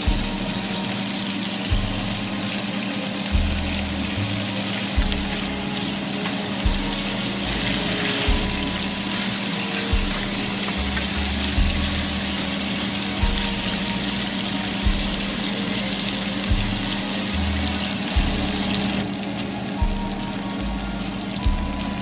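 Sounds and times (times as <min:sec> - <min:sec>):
background music with slow beat: 0:00.0 - 0:22.0
onions and sausage sizzling: 0:00.0 - 0:22.0.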